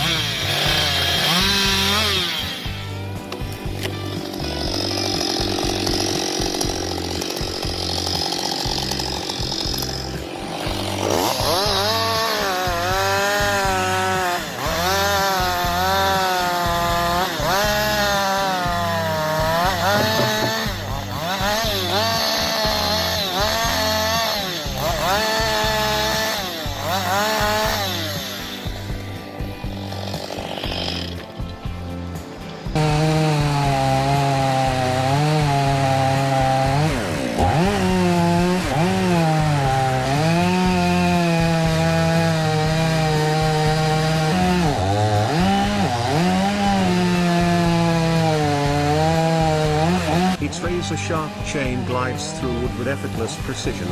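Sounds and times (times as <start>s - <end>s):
background music with low beat: 0.0s - 53.9s
chainsaw cutting wood: 0.0s - 53.9s.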